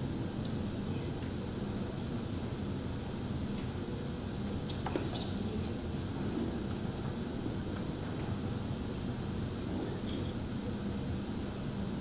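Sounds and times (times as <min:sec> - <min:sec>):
room tone rumble and hiss: 0:00.0 - 0:12.0.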